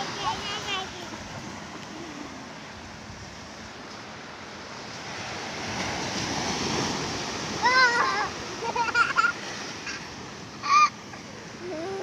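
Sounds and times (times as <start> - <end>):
small waves breaking on beach: 0.0 - 12.0.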